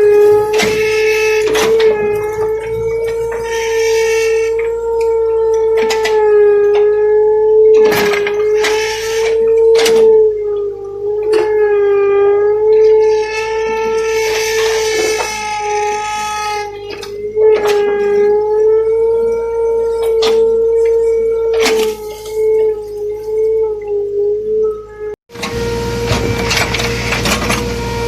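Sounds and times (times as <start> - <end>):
excavator engine whine: 0.0 - 28.0.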